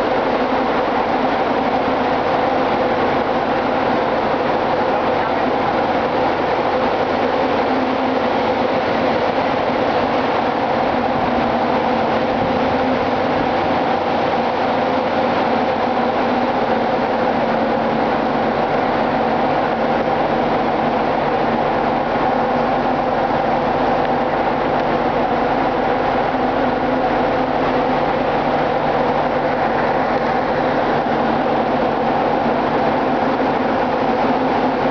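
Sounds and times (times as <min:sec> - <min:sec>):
engine room machinery humming: 0:00.0 - 0:34.9.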